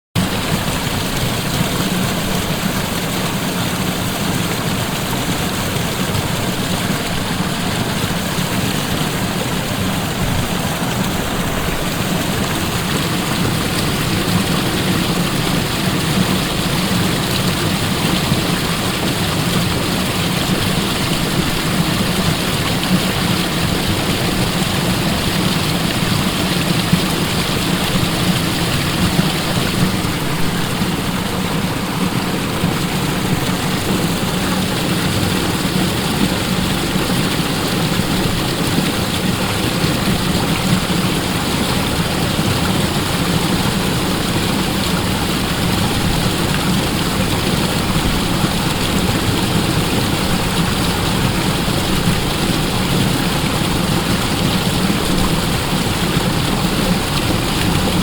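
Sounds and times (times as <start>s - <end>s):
waterfall rushing: 0.2s - 58.0s.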